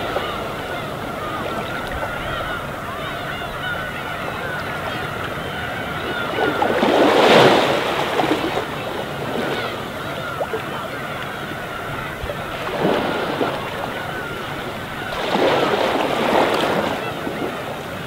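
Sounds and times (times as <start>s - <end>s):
small waves washing onto rocks: 0.0s - 3.1s, 6.0s - 17.7s
flock of gulls calling: 0.0s - 18.0s.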